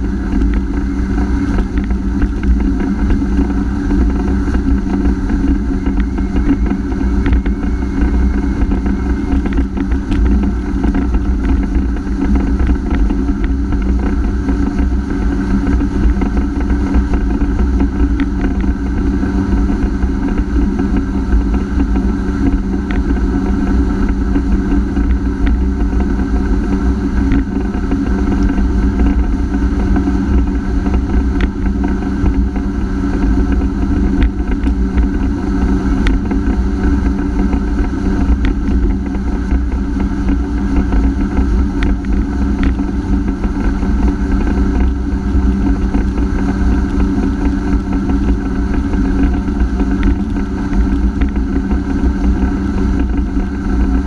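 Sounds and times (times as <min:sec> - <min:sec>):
personal watercraft engine running: 0:00.0 - 0:54.0.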